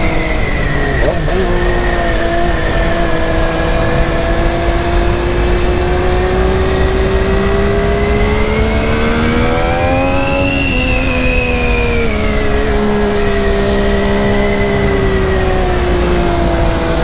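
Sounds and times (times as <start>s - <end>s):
motorcycle engine revving: 0.0s - 17.0s
wind rush over microphone: 0.0s - 17.0s.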